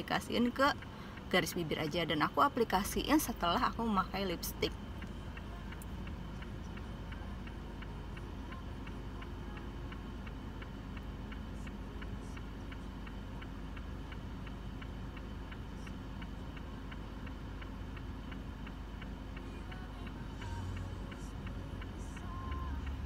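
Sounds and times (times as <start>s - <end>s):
car indicator ticking: 0.0s - 23.0s
low steady hum: 0.0s - 23.0s.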